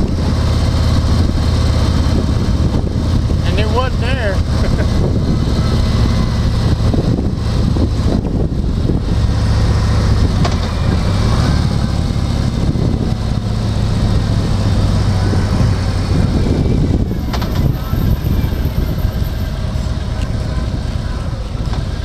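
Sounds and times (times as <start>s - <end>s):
engine and road noise hum: 0.0s - 22.0s.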